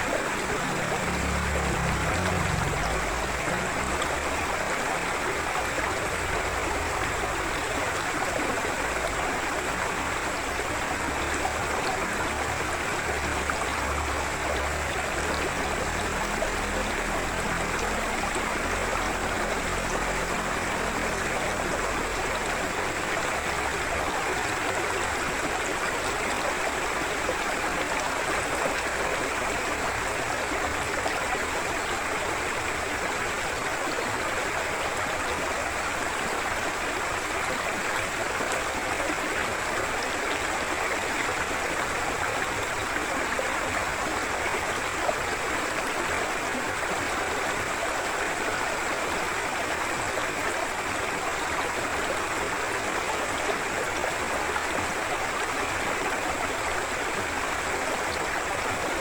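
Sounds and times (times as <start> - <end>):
river flowing: 0.0 - 59.0.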